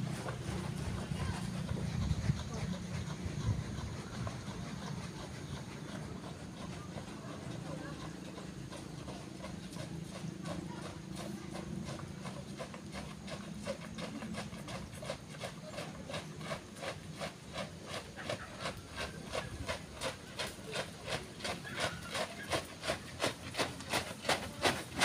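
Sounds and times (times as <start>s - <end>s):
footsteps jogging on sandy path: 0.0s - 25.0s.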